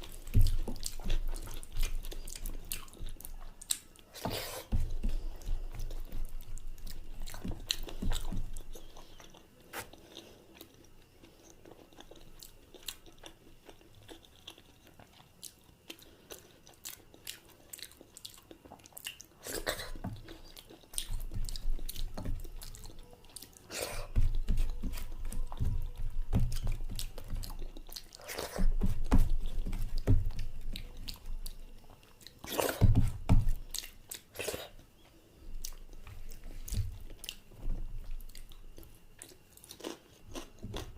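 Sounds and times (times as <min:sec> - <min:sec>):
person chewing and biting: 0:00.0 - 0:34.8, 0:35.5 - 0:40.9.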